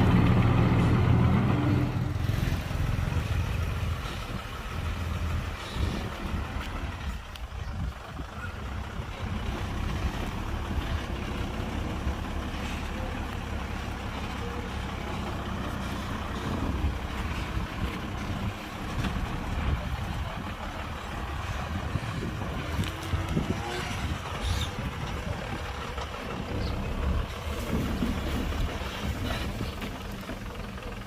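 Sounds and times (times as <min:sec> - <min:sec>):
diesel machinery engine rumble: 0:00.0 - 0:31.0.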